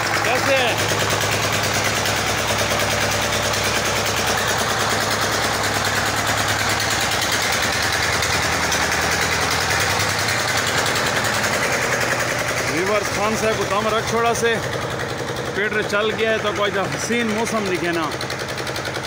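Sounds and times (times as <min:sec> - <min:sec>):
single-cylinder diesel engine running: 0:00.0 - 0:19.0.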